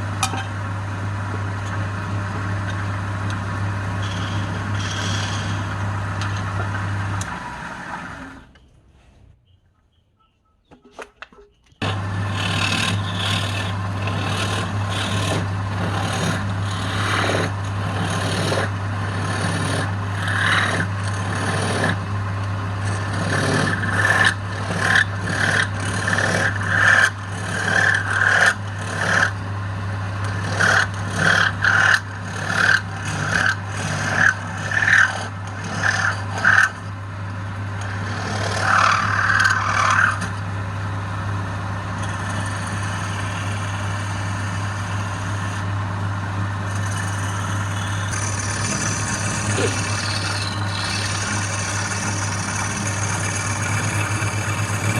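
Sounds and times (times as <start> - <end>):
wood lathe motor hum: 0.0 - 8.6, 11.8 - 54.9
turning tool scraping wood: 1.7 - 7.4, 11.8 - 22.1, 22.8 - 29.4, 30.2 - 36.9, 37.8 - 40.4, 41.9 - 45.7, 46.5 - 54.9.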